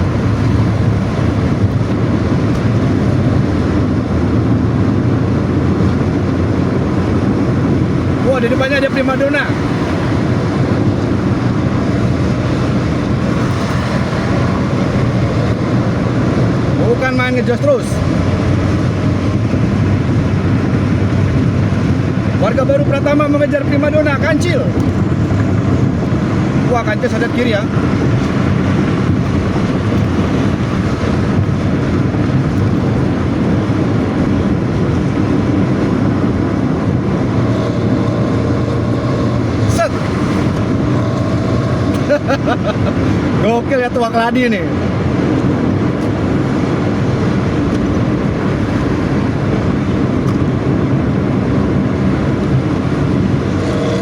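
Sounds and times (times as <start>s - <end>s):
bus engine growling exhaust: 0.0s - 43.8s, 44.4s - 54.0s
road and wind noise: 0.0s - 54.0s.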